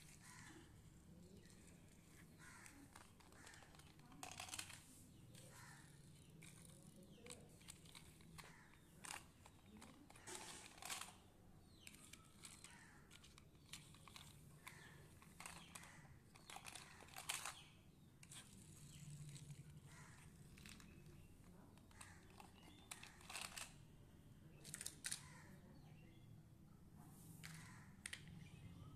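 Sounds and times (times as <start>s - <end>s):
toy cars rustling and clicking: 0.0s - 23.8s, 24.6s - 25.5s, 27.4s - 28.4s.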